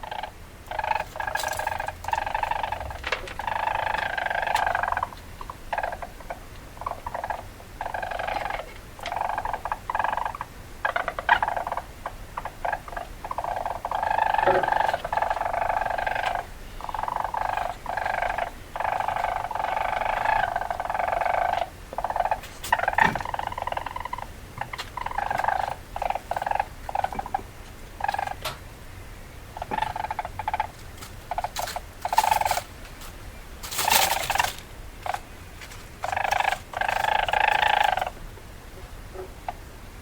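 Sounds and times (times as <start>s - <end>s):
weasel chattering: 0.0s - 28.6s, 29.5s - 32.7s, 33.7s - 35.3s, 36.0s - 38.2s.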